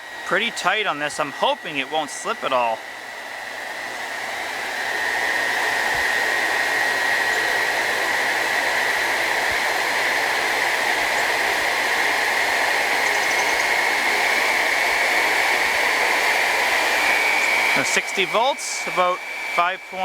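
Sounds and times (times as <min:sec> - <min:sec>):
vacuum cleaner motor whining: 0:00.0 - 0:20.0.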